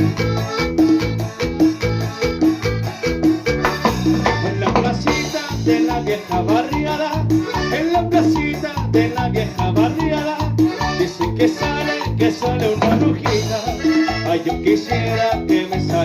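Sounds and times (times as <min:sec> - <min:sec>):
live band playing latin dance music: 0:00.0 - 0:16.0.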